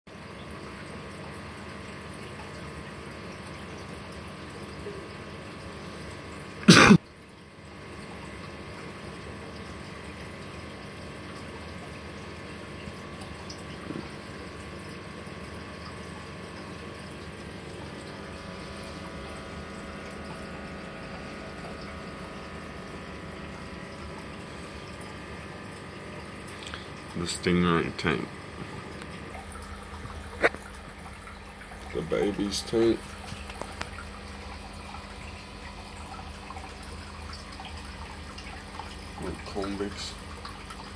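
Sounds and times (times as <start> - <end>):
aquarium pumps and filters humming: 0.1 - 40.9.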